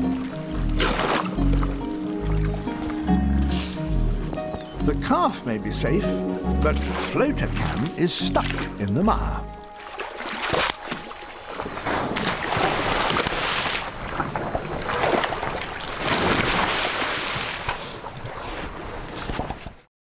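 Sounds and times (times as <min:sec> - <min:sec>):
swamp water sloshing and splashing: 0:00.0 - 0:19.8.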